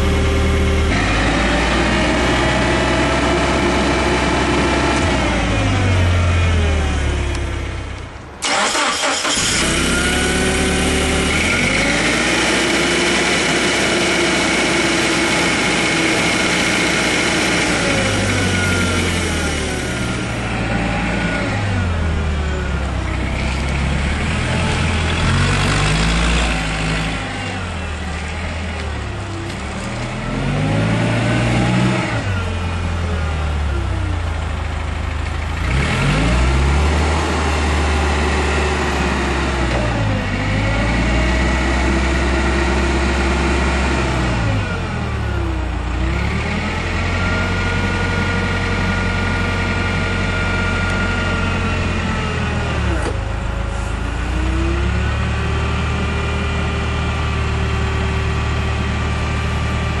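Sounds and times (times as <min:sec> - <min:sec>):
forklift engine revving: 0:00.0 - 1:00.0.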